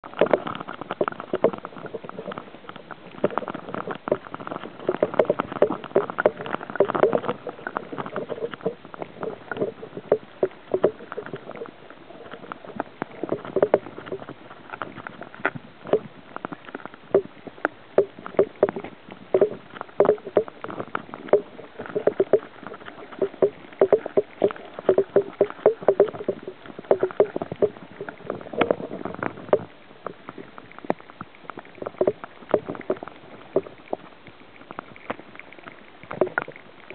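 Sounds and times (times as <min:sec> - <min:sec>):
muffled water sloshing: 0:00.0 - 0:36.9.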